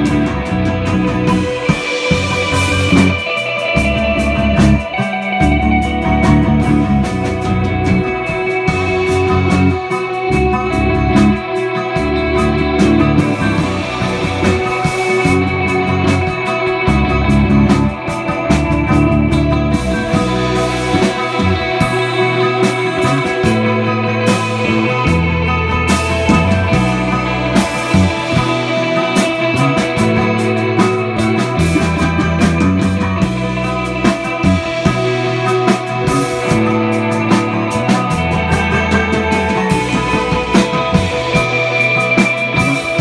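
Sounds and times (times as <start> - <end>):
drums on cymbals: 0.0 - 43.0
electric bass low notes: 0.0 - 43.0
electric guitars ringing: 0.0 - 43.0.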